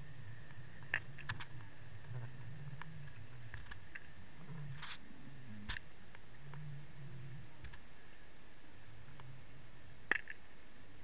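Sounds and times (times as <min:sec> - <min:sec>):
faint high whine: 0:00.0 - 0:11.0
low underwater hum: 0:00.0 - 0:11.0.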